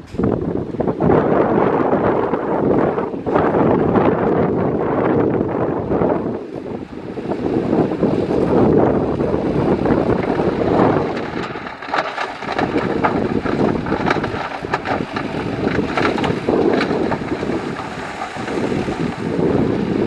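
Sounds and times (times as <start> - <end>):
diesel machinery running: 0.0 - 20.0
wind buffeting microphone: 0.0 - 20.0.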